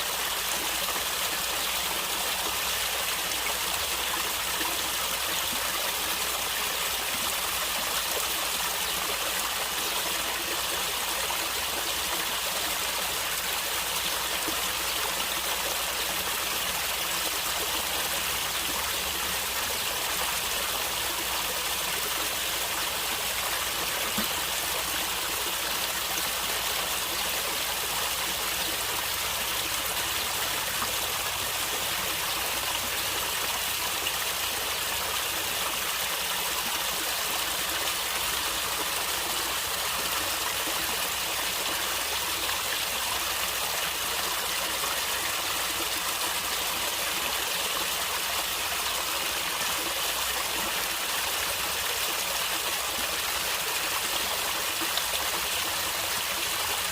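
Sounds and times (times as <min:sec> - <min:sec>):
stream flowing and gurgling: 0:00.0 - 0:56.9.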